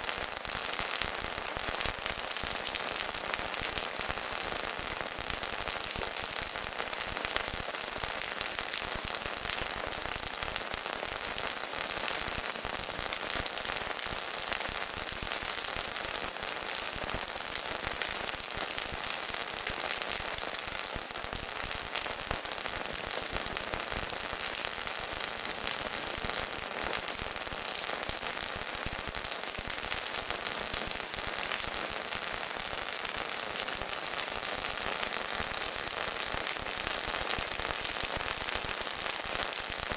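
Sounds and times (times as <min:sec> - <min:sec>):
fireworks fountains crackling: 0:00.0 - 0:39.9.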